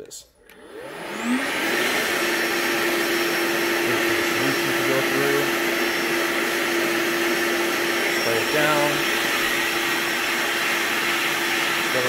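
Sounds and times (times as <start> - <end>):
cleaner suction motor whining: 0.4 - 12.0.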